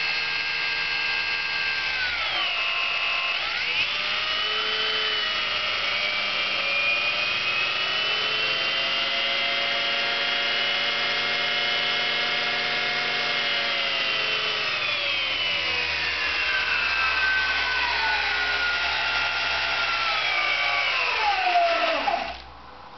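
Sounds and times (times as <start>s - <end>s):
electric motor whining: 0.2s - 22.5s.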